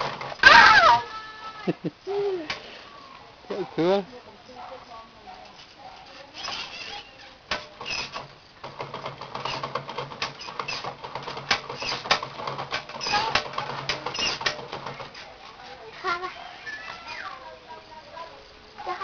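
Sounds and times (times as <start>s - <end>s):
bicycle pedals and chain rattling: 0.0s - 1.4s, 4.6s - 19.0s.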